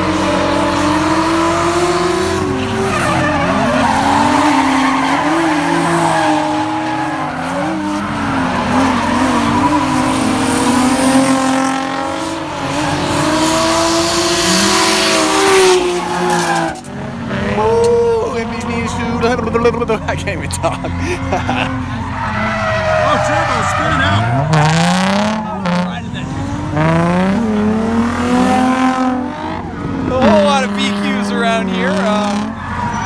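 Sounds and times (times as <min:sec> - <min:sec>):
car engines revving: 0:00.0 - 0:33.0
tires squealing: 0:00.0 - 0:33.0.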